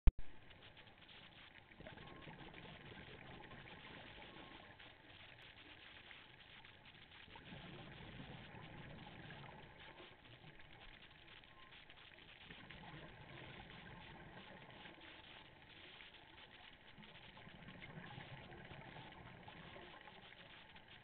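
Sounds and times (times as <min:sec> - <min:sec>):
muffled underwater hiss: 0:00.2 - 0:21.0.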